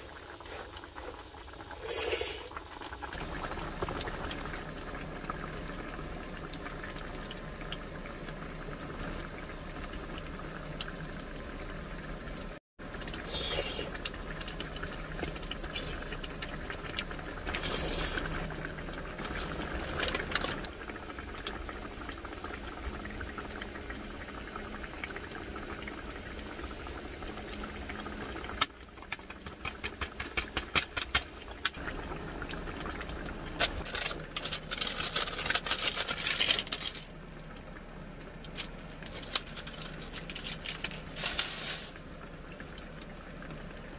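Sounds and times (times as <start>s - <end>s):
stew bubbling at a boil: 0.0s - 43.9s.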